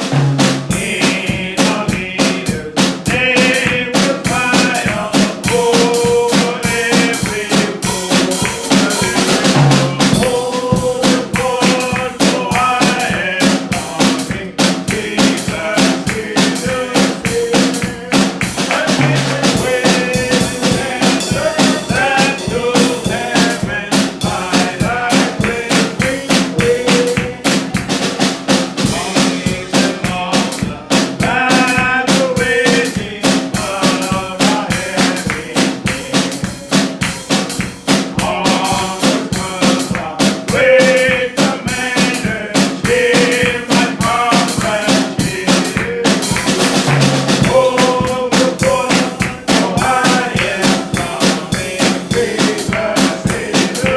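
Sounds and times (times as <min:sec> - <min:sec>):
church band playing a hymn: 0:00.0 - 0:53.9
drum kit beat: 0:00.0 - 0:53.9.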